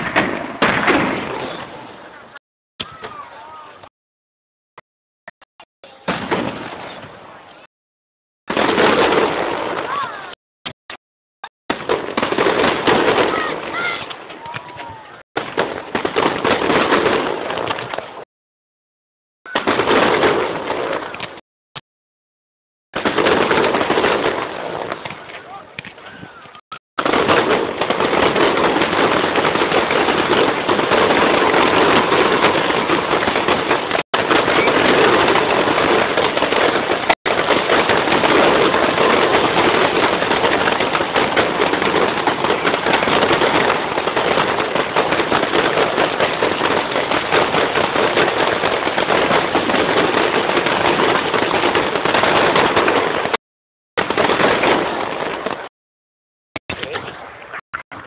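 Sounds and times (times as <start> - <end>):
fireworks bangs and crackles: 0.0 - 3.9, 5.8 - 7.7, 8.5 - 10.4, 11.7 - 18.3, 19.5 - 21.4, 23.0 - 53.4, 54.0 - 55.7.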